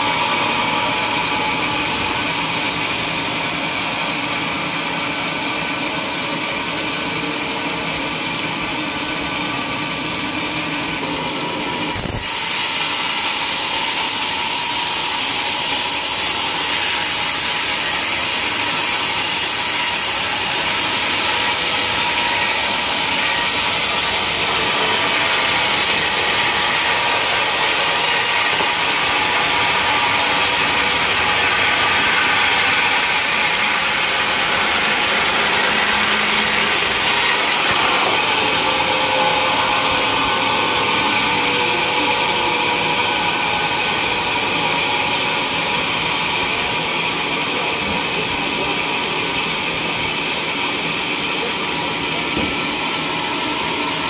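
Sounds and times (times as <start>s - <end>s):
band saw running: 0.0s - 54.0s.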